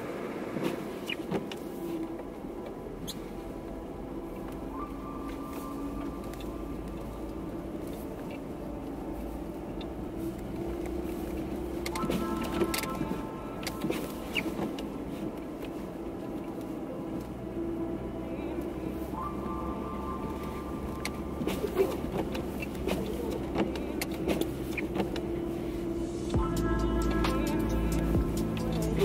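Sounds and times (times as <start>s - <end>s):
car cabin rumble: 0.0s - 29.0s.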